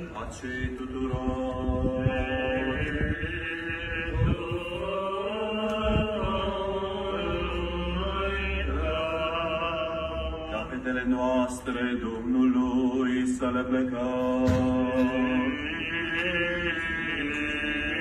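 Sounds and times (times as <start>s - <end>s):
voices singing liturgical chant: 0.0s - 18.0s.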